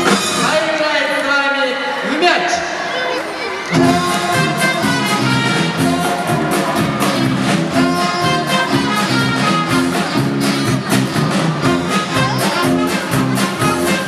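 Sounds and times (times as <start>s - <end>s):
circus band music with brass: 0.0s - 14.0s.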